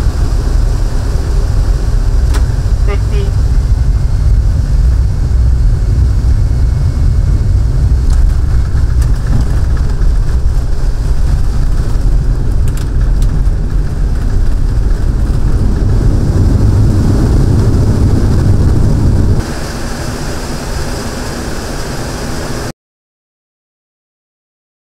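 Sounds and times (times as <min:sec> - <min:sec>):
aircraft taxiing hum with whine: 0:00.0 - 0:22.7
jet aircraft deep rumble: 0:00.0 - 0:22.7.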